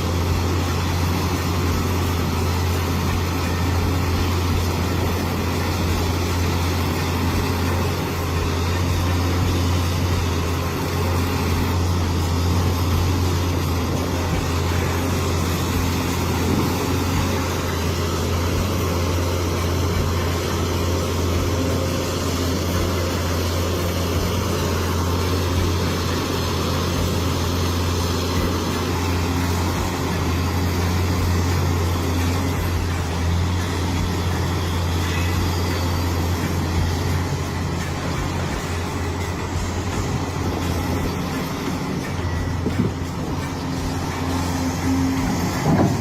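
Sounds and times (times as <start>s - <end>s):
diesel engine droning: 0.0s - 46.0s.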